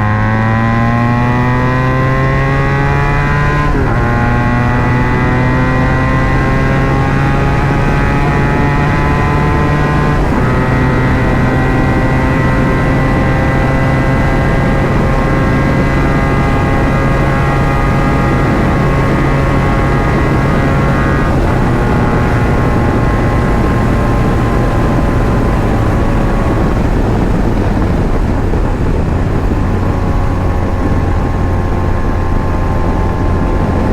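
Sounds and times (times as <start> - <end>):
motorcycle engine running loud: 0.0 - 33.9.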